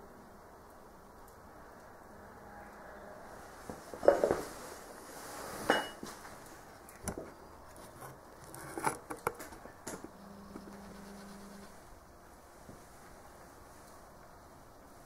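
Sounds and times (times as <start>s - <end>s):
fire crackling in a stove: 0.0s - 15.0s.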